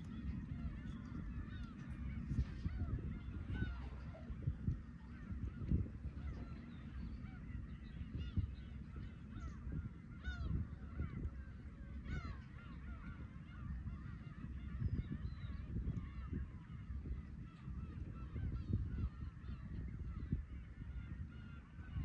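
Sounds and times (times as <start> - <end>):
gulls calling: 0.0 - 22.0.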